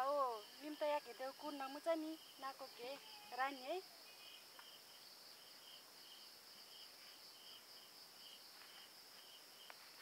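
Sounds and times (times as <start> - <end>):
cricket chirping: 0.0 - 10.0
high insect drone: 0.0 - 10.0.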